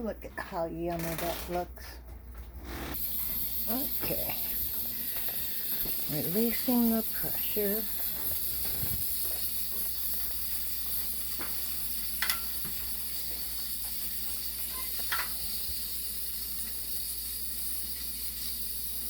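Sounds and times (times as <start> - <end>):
pressure cooker venting steam: 2.7 - 19.0.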